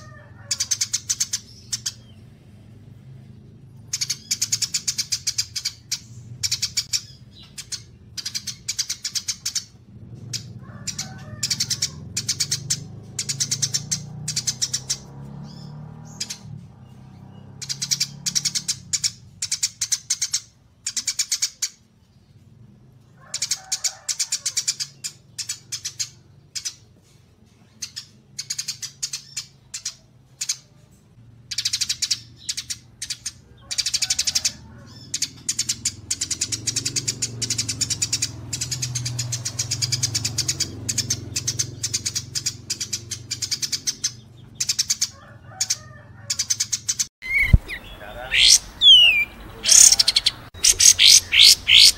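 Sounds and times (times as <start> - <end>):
songbird chirping: 0.0 - 51.9.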